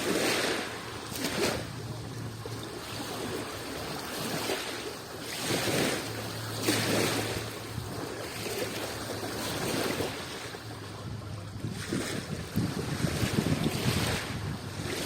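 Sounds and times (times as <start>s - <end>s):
waves washing against shore: 0.0s - 15.0s.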